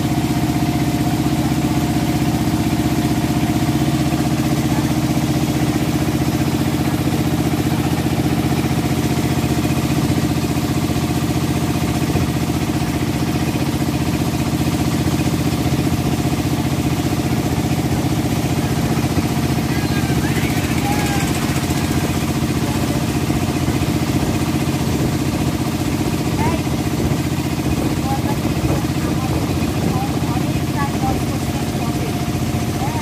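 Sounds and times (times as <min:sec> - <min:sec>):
boat engine running: 0:00.0 - 0:33.0
water churning along hull: 0:00.0 - 0:33.0.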